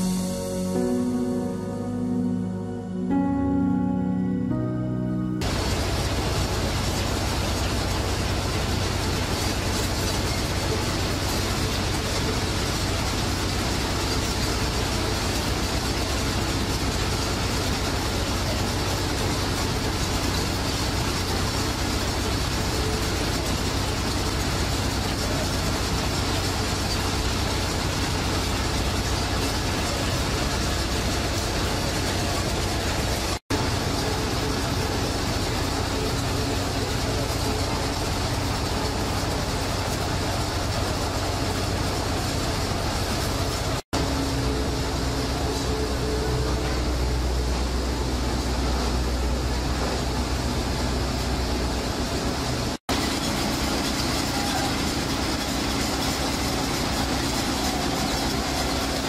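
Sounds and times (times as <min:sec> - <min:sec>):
constant low hum: 0:00.0 - 0:59.0
machinery running: 0:00.0 - 0:59.0.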